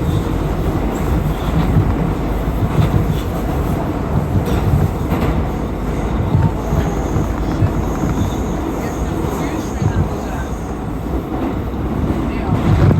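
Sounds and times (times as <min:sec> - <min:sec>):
subway wheels rumbling on rail: 0:00.0 - 0:12.9.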